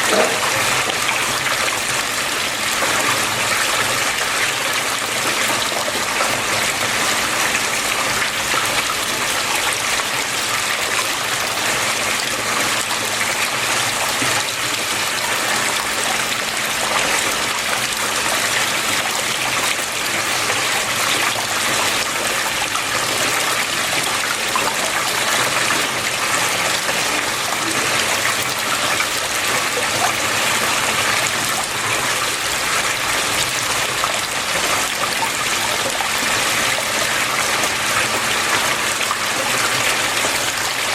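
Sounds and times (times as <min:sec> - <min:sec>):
water flowing: 0:00.0 - 0:40.9.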